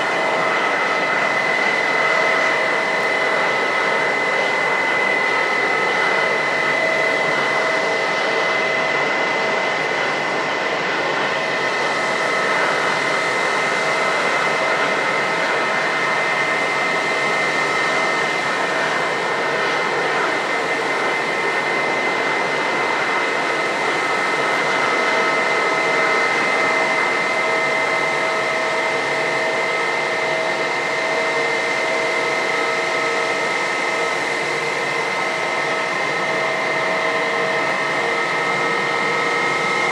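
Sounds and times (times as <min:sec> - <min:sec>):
jet engines idling whine: 0:00.0 - 0:39.9.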